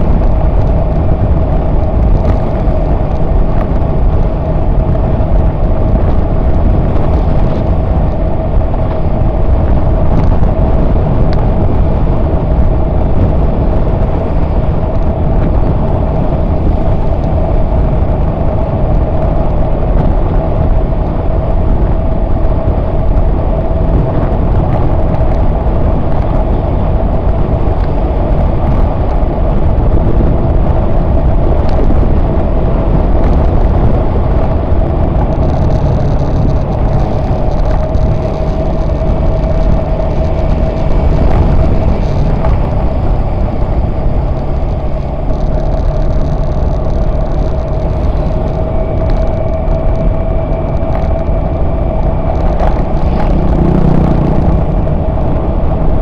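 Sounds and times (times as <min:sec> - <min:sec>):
steady hum: 0:00.0 - 0:56.0
wind rushing over microphone: 0:00.0 - 0:56.0.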